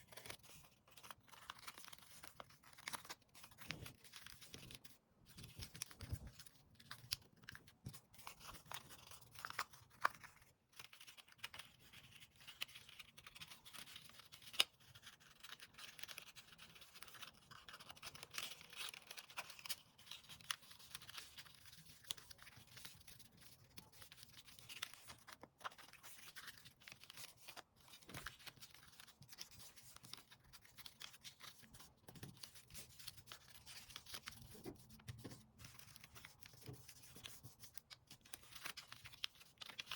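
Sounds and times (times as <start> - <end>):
paper rustling: 0.0 - 39.9.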